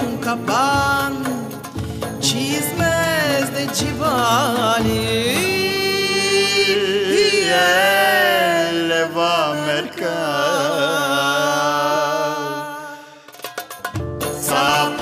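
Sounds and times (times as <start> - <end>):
man and woman singing duet: 0.0 - 13.3, 14.4 - 15.0.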